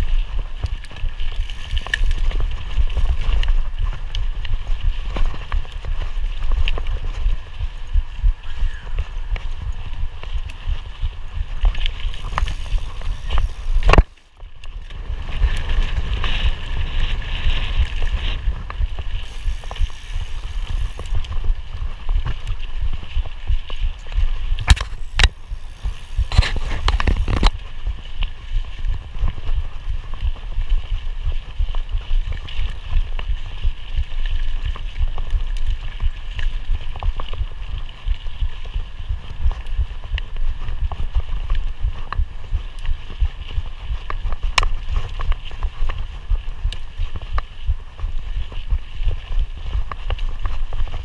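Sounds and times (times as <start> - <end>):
bike rattling and knocking: 0.0 - 51.0
bike tyres rumbling on dirt: 0.0 - 51.0
wind on microphone: 0.0 - 51.0.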